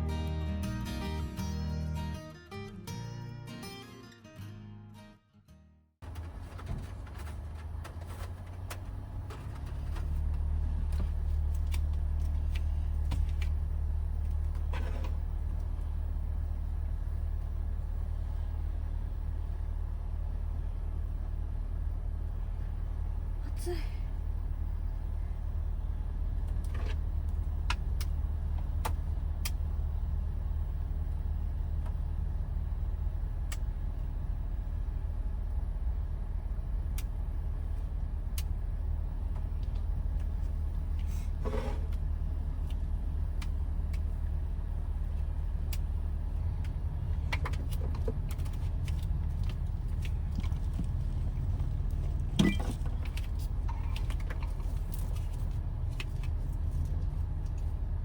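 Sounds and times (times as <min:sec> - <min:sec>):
van engine rumble from inside: 0:00.0 - 0:04.5, 0:05.9 - 0:58.0.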